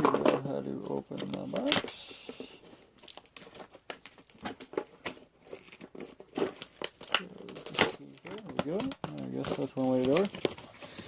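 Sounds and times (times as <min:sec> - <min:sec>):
box packaging crinkling and tearing: 0:00.0 - 0:11.0
packaging snapping: 0:01.1 - 0:11.0.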